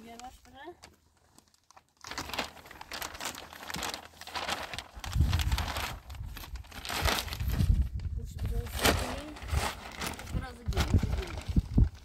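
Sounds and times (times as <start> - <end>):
plastic sheet crinkling: 0.0 - 12.0.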